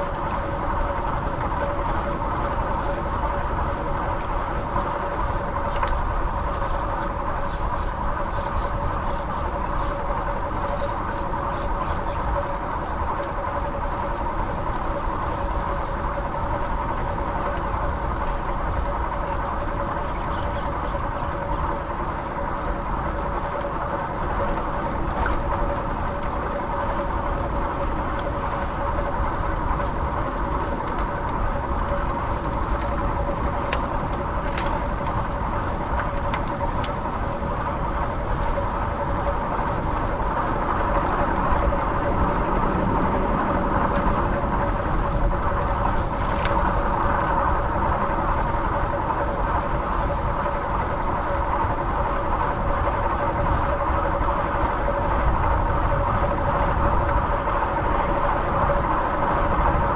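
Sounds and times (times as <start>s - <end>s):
bicycle road and wind noise: 0.0s - 59.9s
constant hum: 0.0s - 59.9s.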